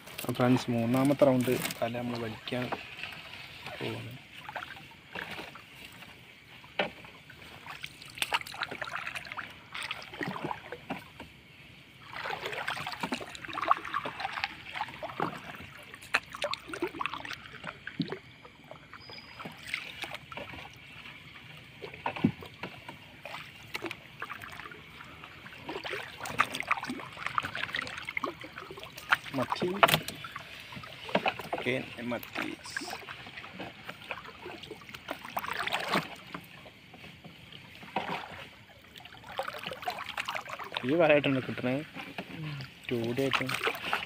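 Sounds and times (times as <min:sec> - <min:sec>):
water splashes: 0:00.0 - 0:44.0.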